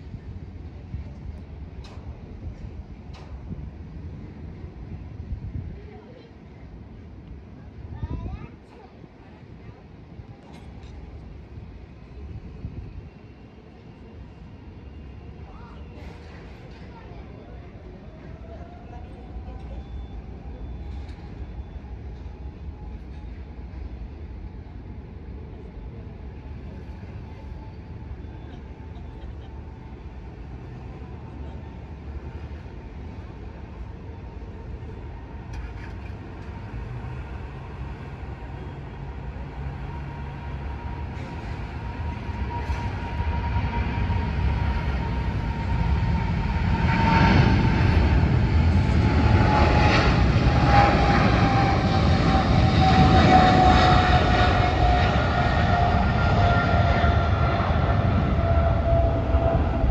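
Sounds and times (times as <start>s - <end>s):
jet airliner engines whining: 9.0s - 59.9s.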